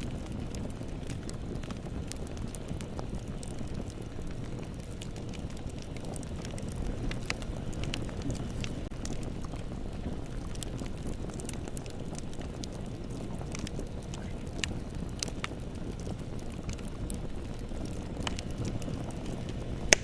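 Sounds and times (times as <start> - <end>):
bonfire flame rumbling: 0.0 - 20.0
burning wood crackling and popping: 0.0 - 20.0.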